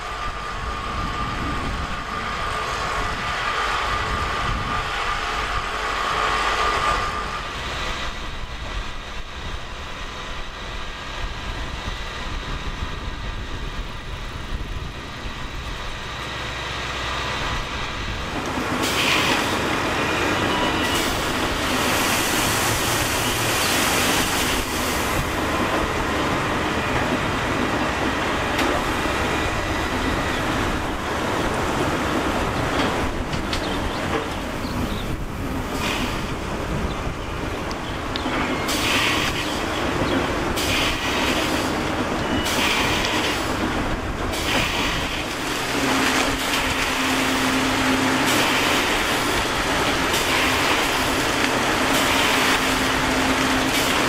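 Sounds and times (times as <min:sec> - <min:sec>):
train wheels on track: 0:00.0 - 0:54.0.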